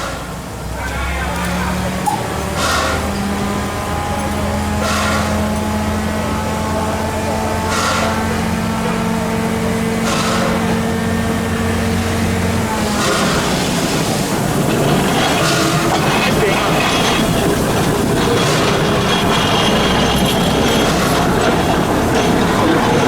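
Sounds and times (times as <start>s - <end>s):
locomotive hiss: 0.0s - 23.0s
locomotive hum: 0.0s - 23.0s.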